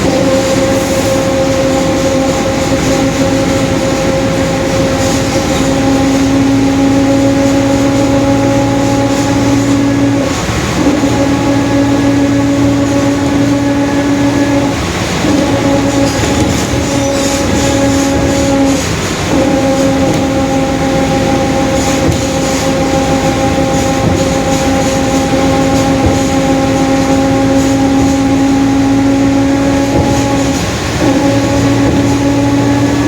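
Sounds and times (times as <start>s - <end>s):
bus differential whine: 0.0s - 33.0s.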